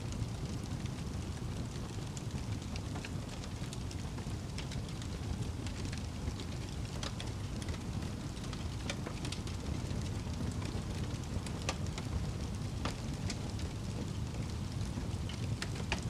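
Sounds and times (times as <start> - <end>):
wood fire crackling: 0.0 - 16.0
burning wood popping: 0.1 - 16.0.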